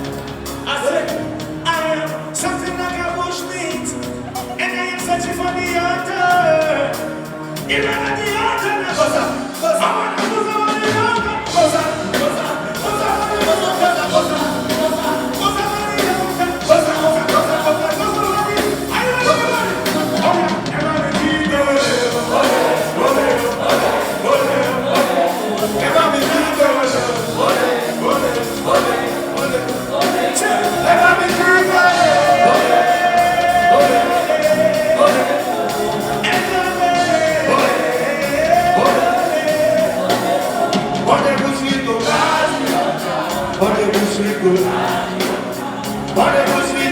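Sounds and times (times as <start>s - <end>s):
live band playing: 0.0s - 46.9s
person singing: 7.7s - 46.9s.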